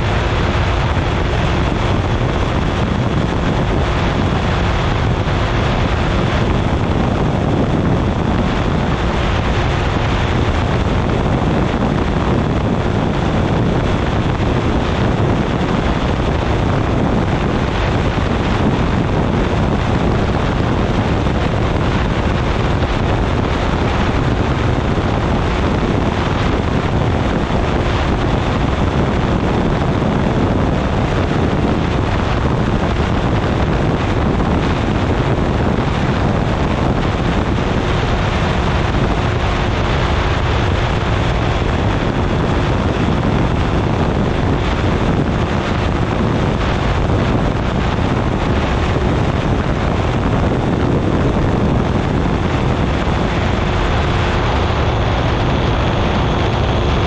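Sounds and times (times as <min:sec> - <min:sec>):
engine and propeller running: 0:00.0 - 0:57.0
wind rushing over microphone: 0:00.0 - 0:57.0.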